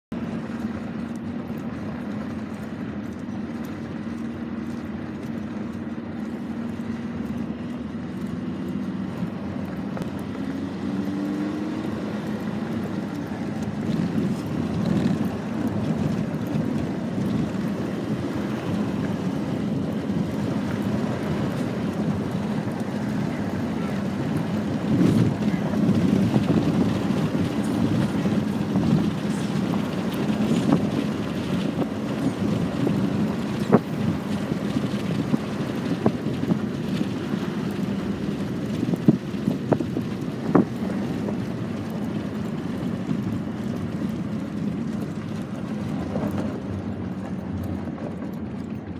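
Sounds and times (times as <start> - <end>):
vehicle running noise: 0.0 - 48.9
wind buffeting microphone: 0.2 - 48.9.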